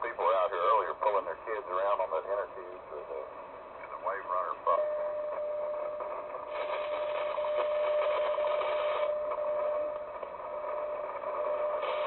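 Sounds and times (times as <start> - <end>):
radio static hiss: 0.0 - 5.0, 5.6 - 12.0.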